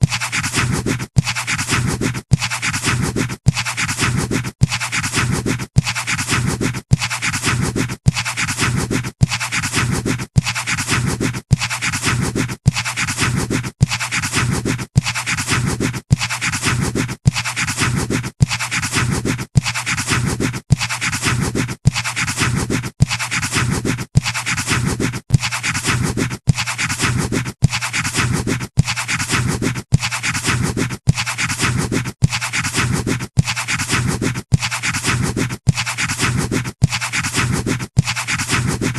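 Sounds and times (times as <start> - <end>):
pencil scratching on paper: 0.0 - 38.9.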